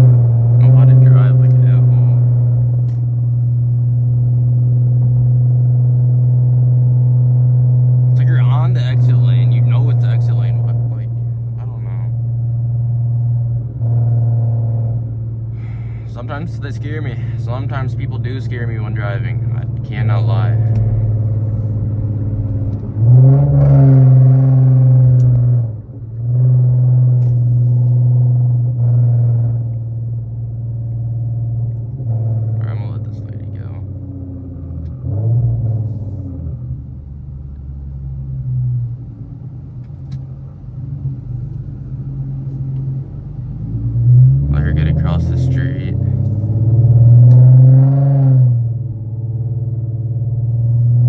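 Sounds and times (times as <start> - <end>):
car engine drone from inside cabin: 0.0 - 51.0.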